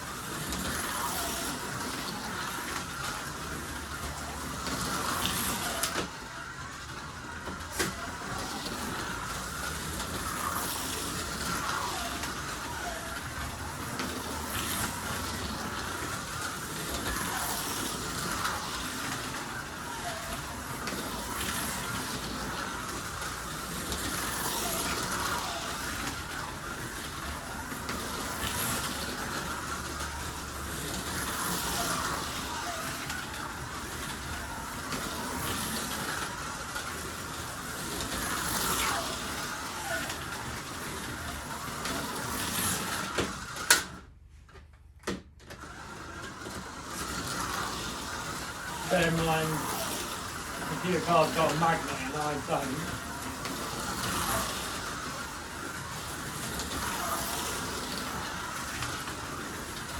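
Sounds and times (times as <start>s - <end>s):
hiss from slot car track: 0.0s - 44.1s, 45.0s - 59.9s
slot car motors whining: 0.0s - 44.4s, 45.0s - 59.9s.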